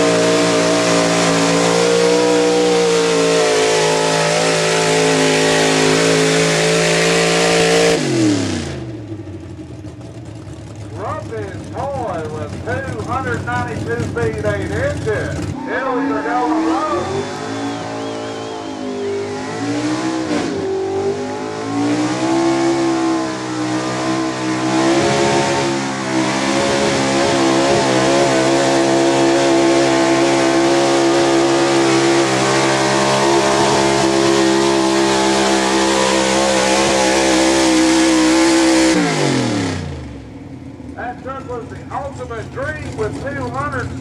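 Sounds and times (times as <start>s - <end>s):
truck engine revving at full throttle: 0.0s - 44.0s.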